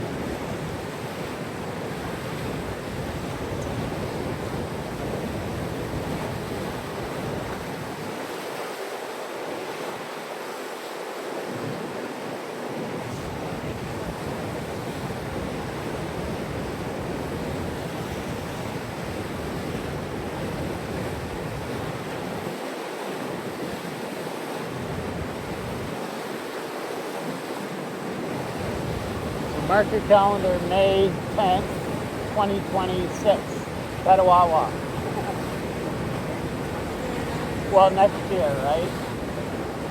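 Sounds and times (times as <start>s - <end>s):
moving water: 0.0s - 39.9s.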